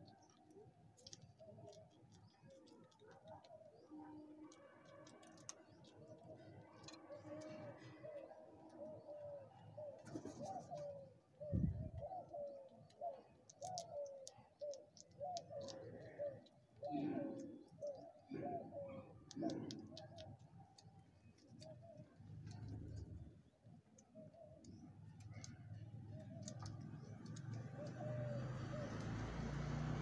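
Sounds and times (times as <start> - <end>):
birds calling low notes: 1.3 - 29.6.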